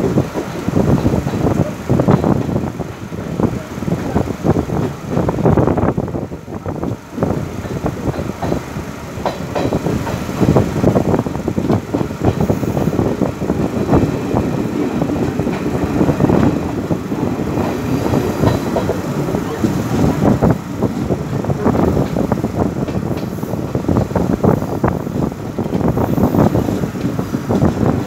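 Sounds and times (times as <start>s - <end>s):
train knocks and clatter: 0.0s - 28.0s
wheels rumbling on rail: 0.0s - 28.0s.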